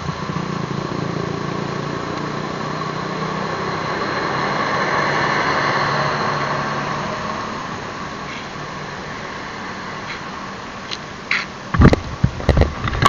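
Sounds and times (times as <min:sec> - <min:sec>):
passing vehicle hiss: 0:00.0 - 0:11.8
vehicle engine running: 0:00.0 - 0:13.0.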